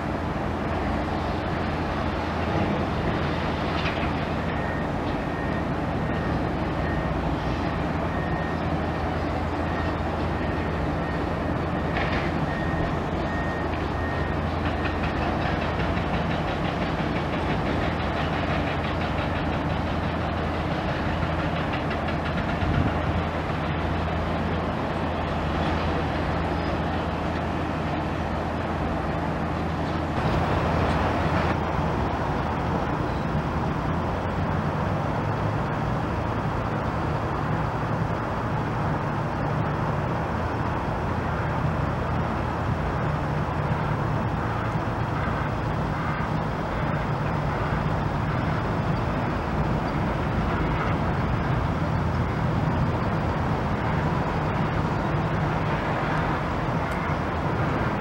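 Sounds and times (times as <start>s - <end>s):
large engine rumbling: 0.0s - 58.0s.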